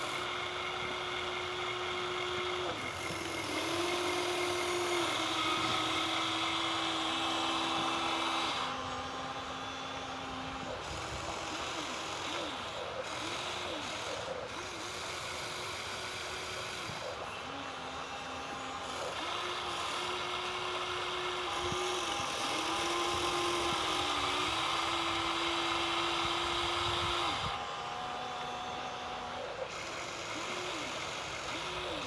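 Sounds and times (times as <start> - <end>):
small electric motor whining: 0.0 - 32.0.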